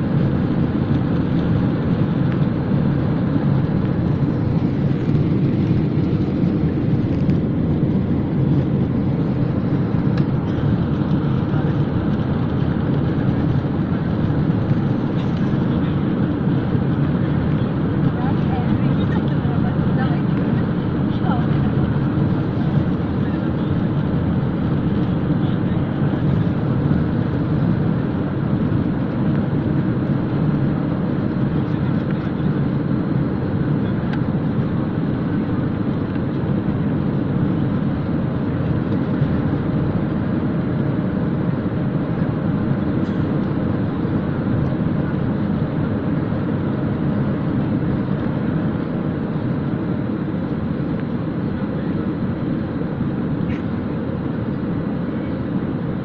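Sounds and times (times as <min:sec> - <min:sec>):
plane engines droning in cabin: 0:00.0 - 0:56.0.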